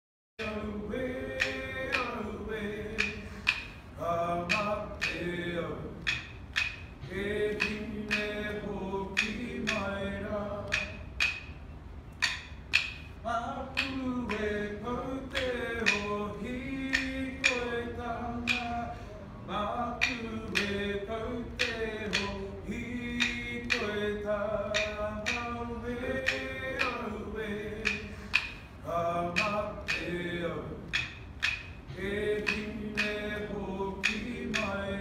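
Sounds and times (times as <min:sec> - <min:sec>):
unaccompanied singing voices: 0:00.4 - 0:35.0.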